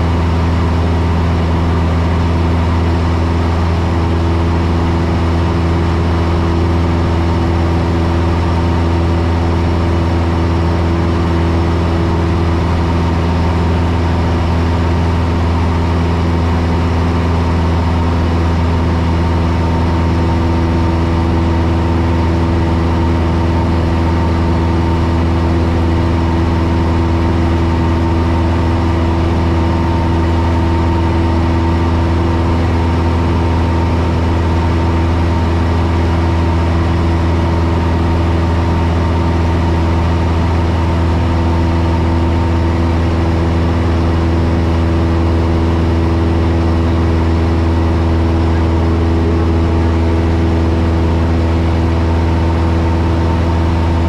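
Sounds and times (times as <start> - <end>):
airplane engine droning: 0.0 - 54.0.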